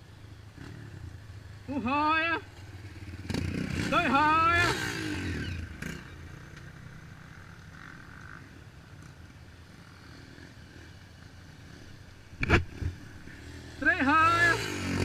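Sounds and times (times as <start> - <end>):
motorcycle engine idling: 0.0 - 4.5, 5.5 - 13.9.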